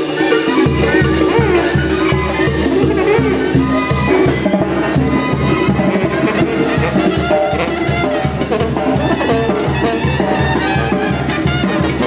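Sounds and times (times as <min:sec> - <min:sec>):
latin dance music with brass: 0:00.0 - 0:12.0.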